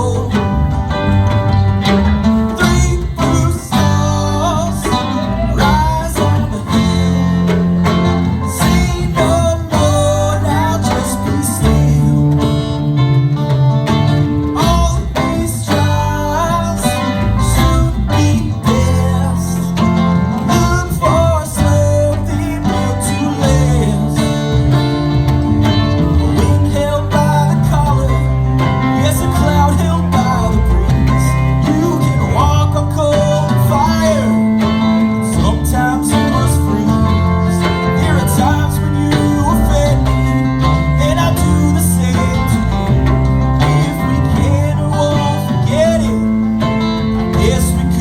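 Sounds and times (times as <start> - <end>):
guitar melody: 0.0 - 48.0
live band playing: 0.0 - 48.0.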